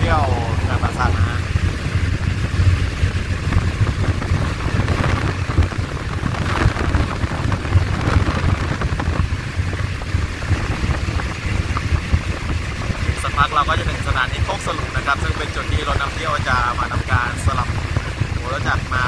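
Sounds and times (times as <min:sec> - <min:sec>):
moving train rumbling: 0:00.0 - 0:19.0
wind buffeting microphone: 0:00.0 - 0:19.0.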